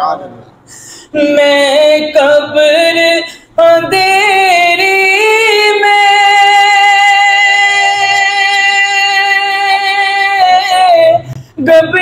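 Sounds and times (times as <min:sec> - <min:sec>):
man singing unaccompanied: 0:01.1 - 0:12.0.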